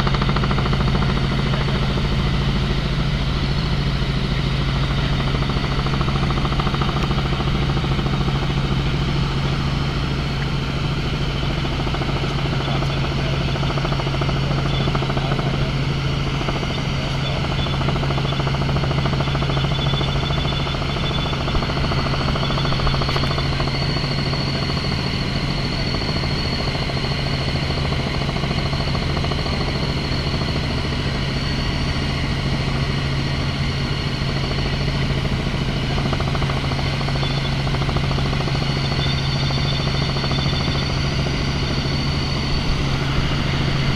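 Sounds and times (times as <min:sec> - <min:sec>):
helicopter rotor chop: 0:00.0 - 0:43.9.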